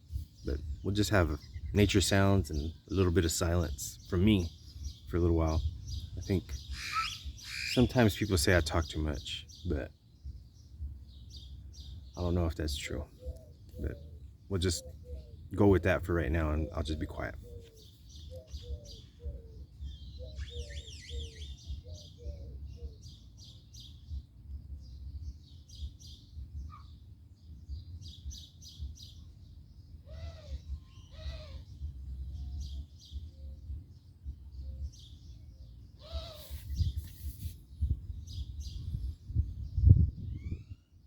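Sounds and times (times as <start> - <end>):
wild birds chirping: 0.0 - 41.0.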